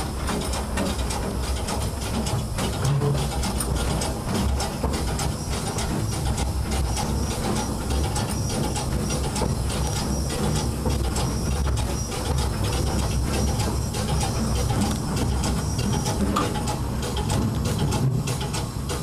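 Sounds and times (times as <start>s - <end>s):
steam locomotive rumbling: 0.0s - 19.0s.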